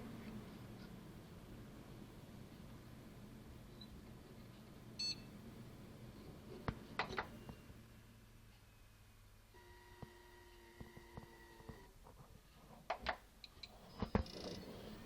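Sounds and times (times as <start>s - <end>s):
faint steady hard drive whine: 0.0s - 15.0s.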